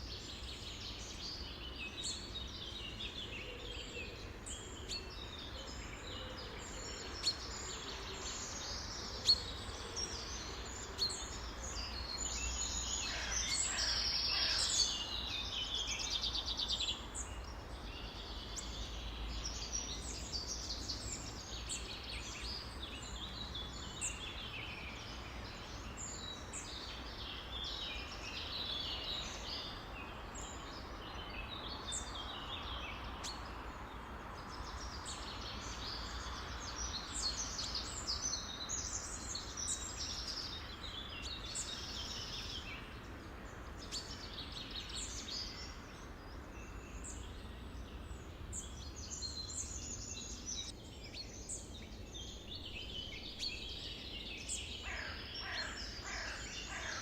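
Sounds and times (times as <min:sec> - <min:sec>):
low background noise: 0:00.0 - 0:57.0
songbirds chirping and trilling: 0:00.0 - 0:57.0.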